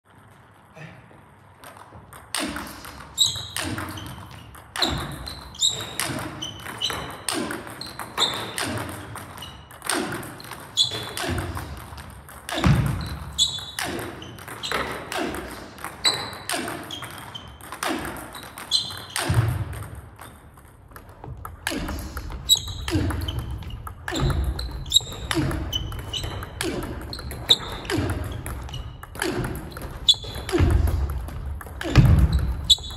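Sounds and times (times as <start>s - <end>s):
ball bouncing on table: 1.6s - 32.9s.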